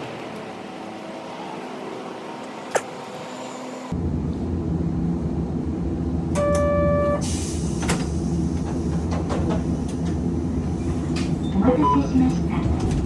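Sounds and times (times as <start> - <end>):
streetcar rumbling: 0.0 - 13.0.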